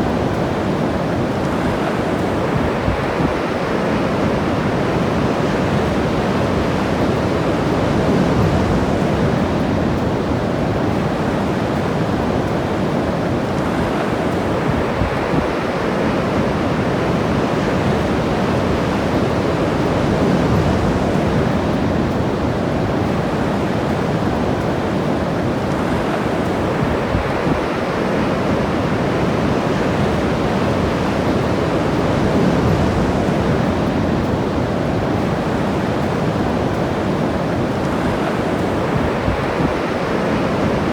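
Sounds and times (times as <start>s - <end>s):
ocean surf breaking on shore: 0.0s - 40.9s
wind on microphone: 0.0s - 40.9s.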